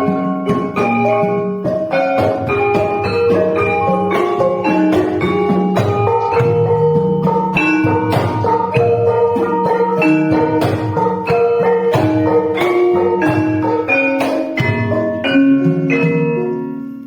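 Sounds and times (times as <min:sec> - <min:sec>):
gamelan ensemble playing: 0:00.0 - 0:17.0.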